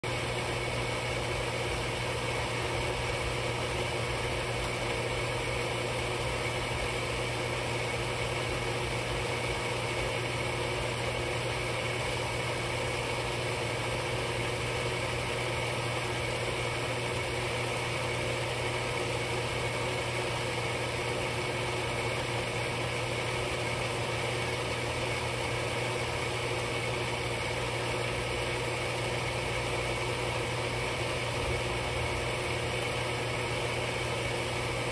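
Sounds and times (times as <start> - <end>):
machine humming: 0.0 - 34.9.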